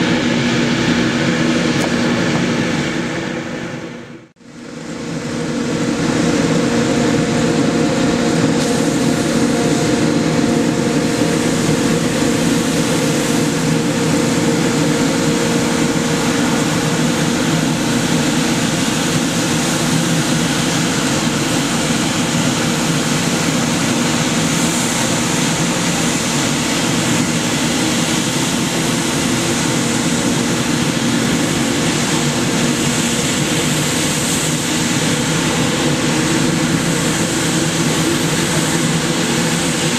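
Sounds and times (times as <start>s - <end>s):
street sweeper truck droning: 0.0s - 39.9s.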